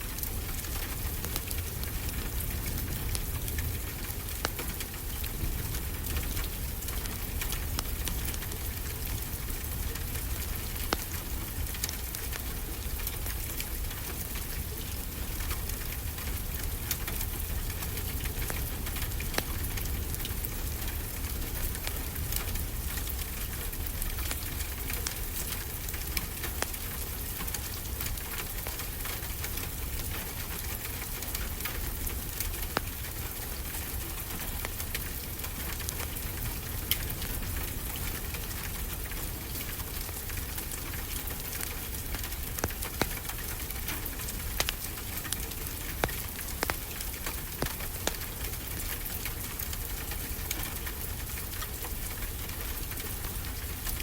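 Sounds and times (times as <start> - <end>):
steady rain hissing: 0.0 - 54.0
wood fire crackling and popping: 0.0 - 54.0.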